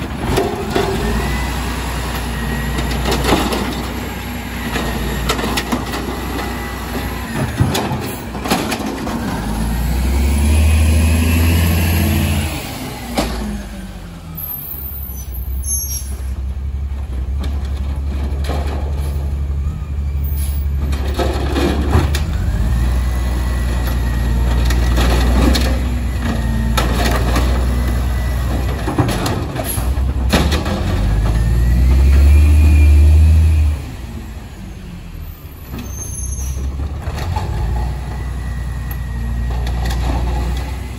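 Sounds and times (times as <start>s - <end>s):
garbage truck engine revving: 0.0s - 14.6s, 18.3s - 40.9s.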